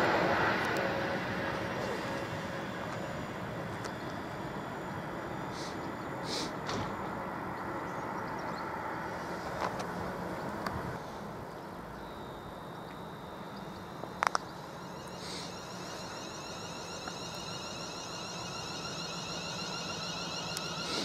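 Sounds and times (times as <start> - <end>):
electric train motors whining: 0.0 - 21.0
steady low hum: 0.0 - 21.0.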